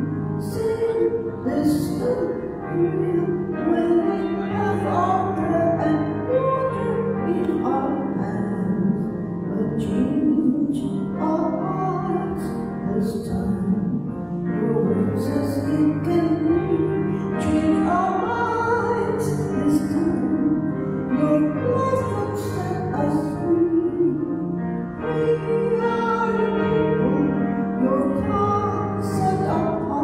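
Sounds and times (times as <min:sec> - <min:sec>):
sustained keyboard chords: 0:00.0 - 0:30.0.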